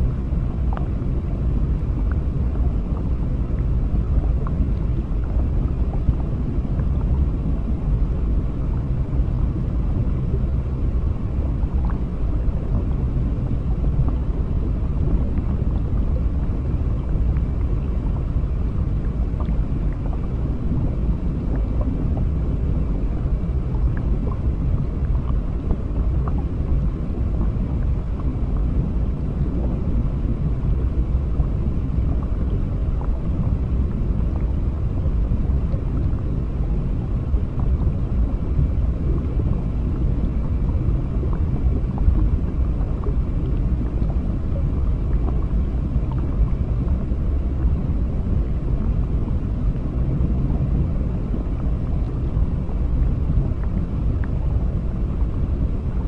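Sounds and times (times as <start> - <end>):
faint ticks and crackles: 0.0 - 55.4
muffled underwater rumble: 0.0 - 56.0.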